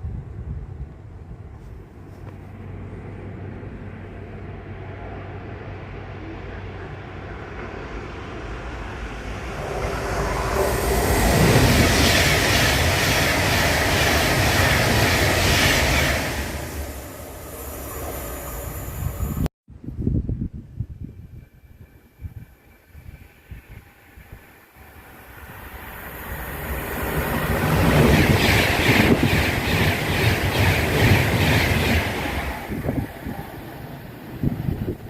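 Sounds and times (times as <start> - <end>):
train passing at speed: 0.0 - 19.5, 20.7 - 35.0.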